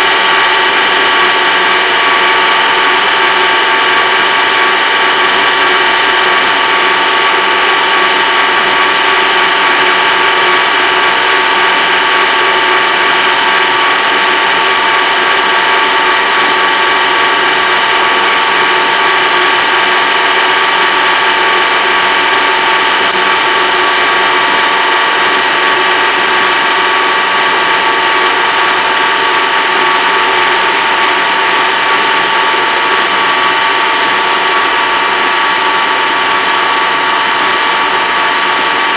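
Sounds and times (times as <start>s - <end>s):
drivetrain whine: 0.0s - 38.9s
tractor engine running: 0.0s - 38.9s.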